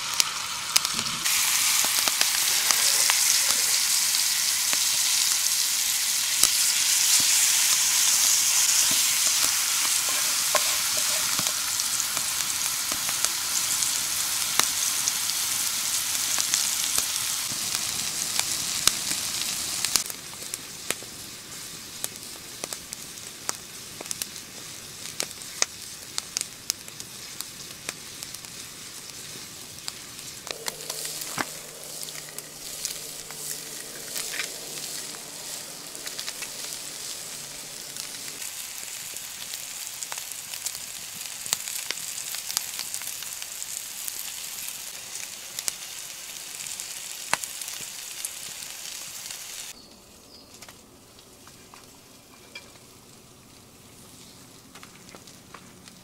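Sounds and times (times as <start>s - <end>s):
food sizzling in a frying pan: 0.0s - 49.8s.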